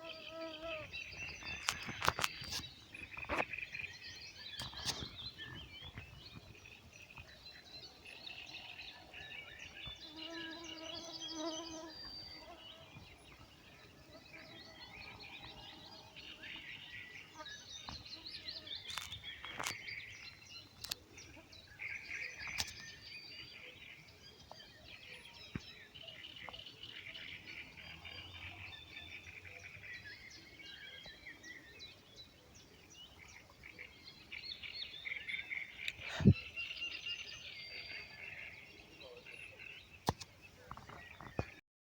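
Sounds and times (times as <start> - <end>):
songbirds chirping and singing: 0.0 - 41.6.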